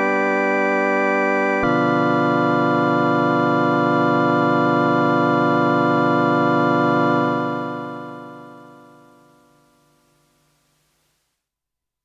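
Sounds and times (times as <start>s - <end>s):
organ chord held: 0.0s - 10.2s.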